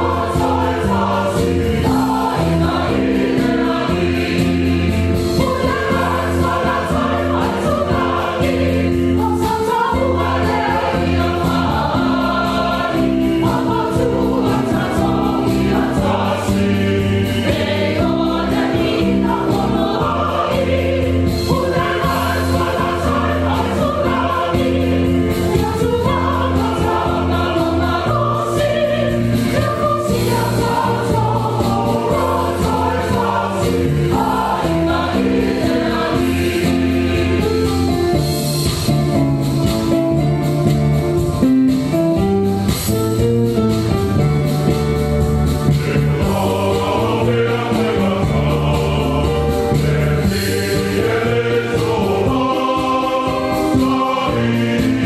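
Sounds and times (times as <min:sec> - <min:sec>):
church choir singing a hymn: 0:00.0 - 0:38.1, 0:45.7 - 0:55.0.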